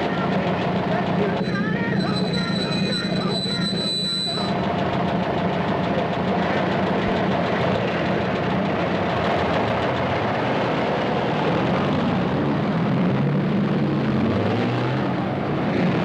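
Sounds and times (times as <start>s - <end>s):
traffic roar: 0.0s - 16.0s.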